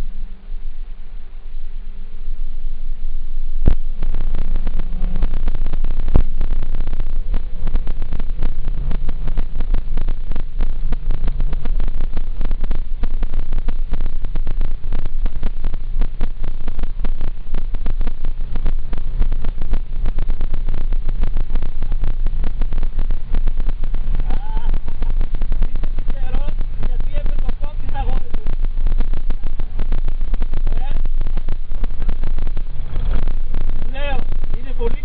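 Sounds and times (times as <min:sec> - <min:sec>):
car engine and road drone: 0:00.0 - 0:35.0.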